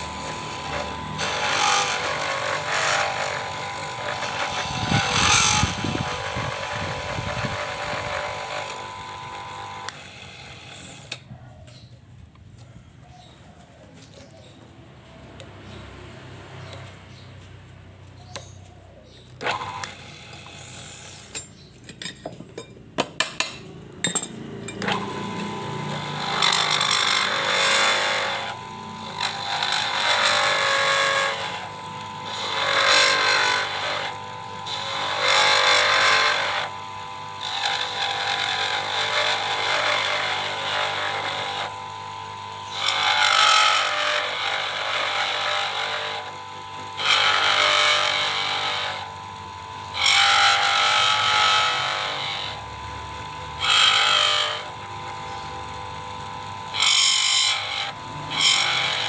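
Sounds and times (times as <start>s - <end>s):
lathe motor whine: 0.0s - 11.2s, 19.4s - 21.3s, 24.7s - 59.0s
cutting tool scraping workpiece: 0.0s - 11.9s, 19.4s - 22.6s, 23.4s - 59.0s.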